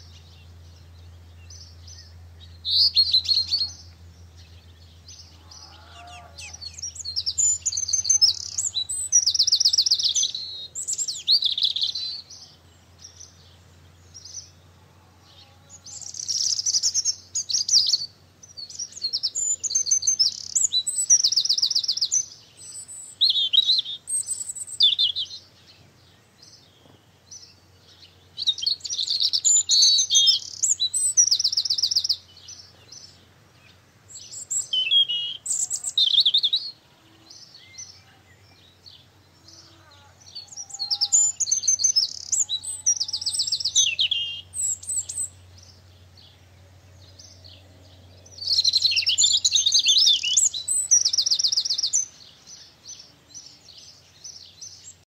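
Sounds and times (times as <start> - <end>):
faint low hum: 0.0 - 55.0
songbirds singing: 0.0 - 55.0.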